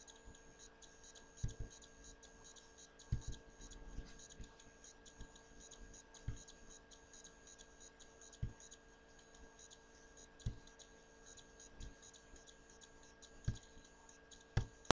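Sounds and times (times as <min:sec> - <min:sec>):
computer mouse clicking: 0:00.0 - 0:14.9
faint steady hum: 0:00.0 - 0:14.9.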